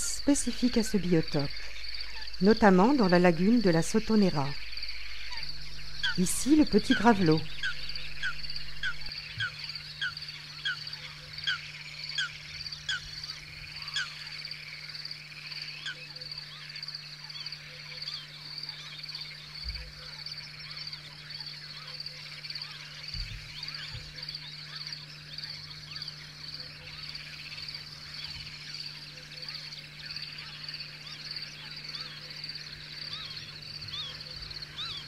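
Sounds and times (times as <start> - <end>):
frogs trilling: 0.0 - 35.0
low steady hum: 0.0 - 35.0.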